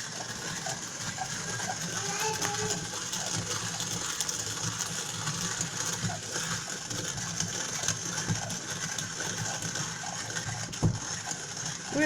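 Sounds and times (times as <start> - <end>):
hand coffee mill grinding: 0.0 - 12.0.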